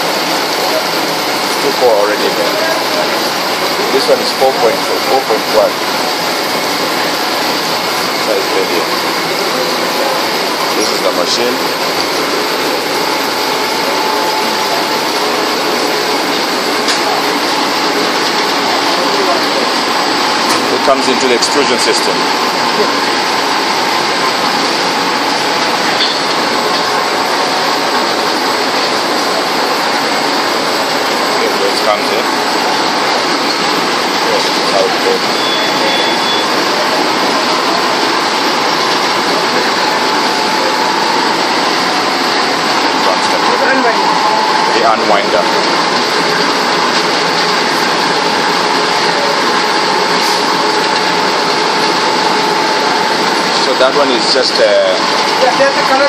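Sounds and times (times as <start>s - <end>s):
extrusion line machinery running: 0.0s - 56.0s.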